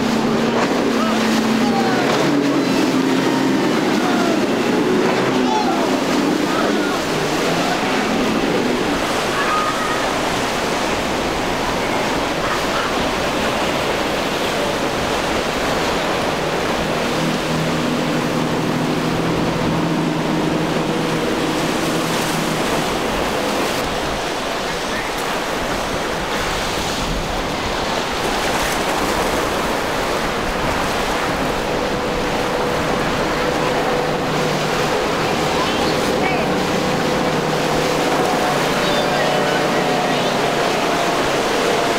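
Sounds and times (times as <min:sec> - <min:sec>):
outboard boat engine hum: 0:00.0 - 0:41.9
waves rushing: 0:00.0 - 0:41.9.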